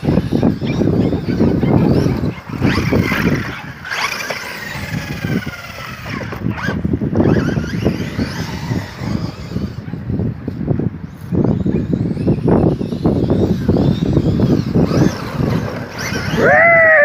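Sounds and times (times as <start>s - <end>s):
electric toy truck motors whining: 0.0s - 17.0s.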